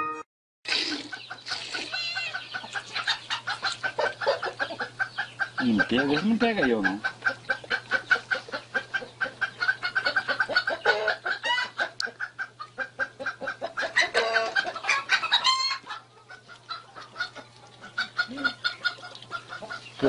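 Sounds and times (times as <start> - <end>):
chicken squawks: 0.7 - 20.0
chickens clucking: 0.7 - 20.0.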